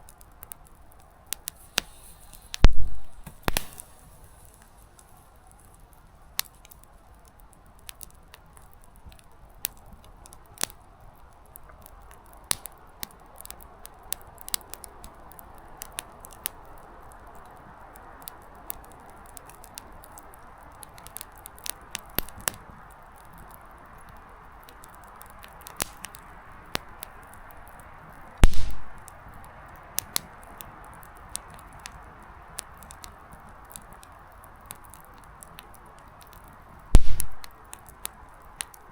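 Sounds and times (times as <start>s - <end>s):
campfire hissing: 0.0s - 38.9s
firewood crackling and popping: 0.0s - 38.9s.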